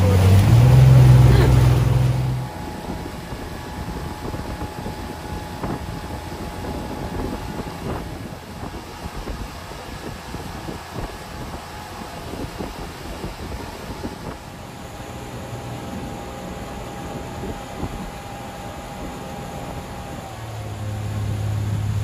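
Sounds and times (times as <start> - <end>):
boat engine running: 0.0 - 22.0
rushing wind and water: 0.0 - 22.0.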